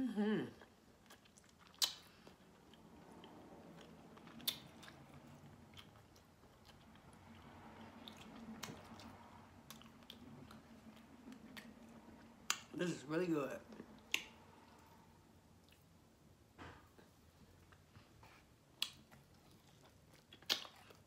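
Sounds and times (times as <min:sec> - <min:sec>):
person chewing meat: 0:00.5 - 0:12.8, 0:13.7 - 0:16.3, 0:17.1 - 0:21.0.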